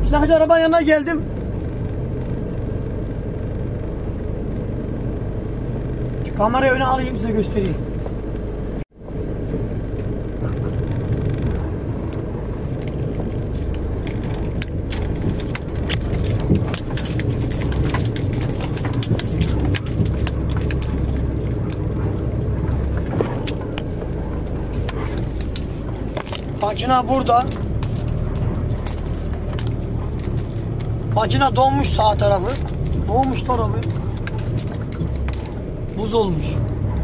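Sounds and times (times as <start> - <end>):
motor vehicle rumble: 0.0 - 37.0.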